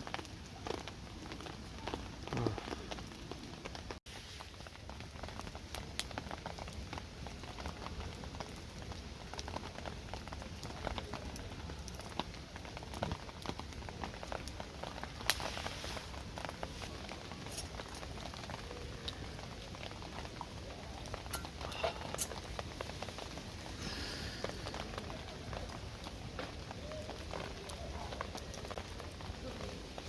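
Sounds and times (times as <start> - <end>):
rain falling: 0.0 - 30.0
raindrops ticking on surface: 0.0 - 30.0.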